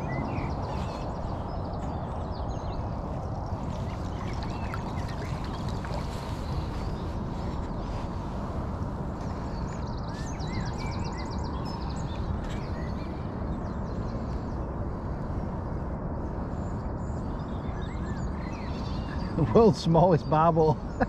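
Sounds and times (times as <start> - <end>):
low background rumble: 0.0 - 21.0
small birds singing and chirping: 0.0 - 21.0.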